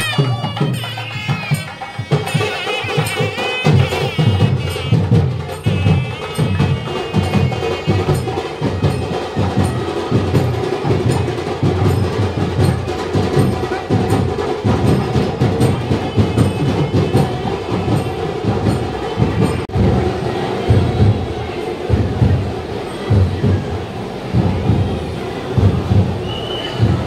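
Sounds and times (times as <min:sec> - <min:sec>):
frame drums beating: 0:00.0 - 0:27.0.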